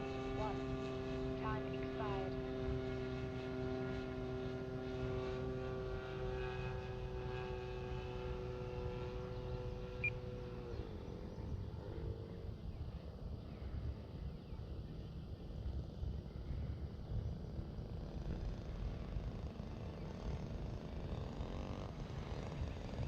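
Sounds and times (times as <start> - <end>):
model airplane engine: 0.0 - 23.0.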